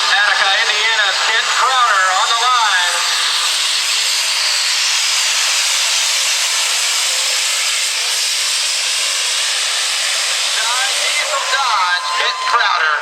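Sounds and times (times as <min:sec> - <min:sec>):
diesel truck engine and turbo roaring: 0:00.0 - 0:13.0.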